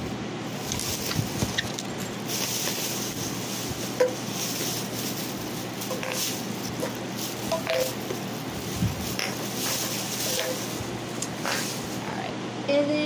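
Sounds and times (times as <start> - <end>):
steady background hiss: 0.0 - 13.0
rustling and knocks of handling: 0.5 - 12.2.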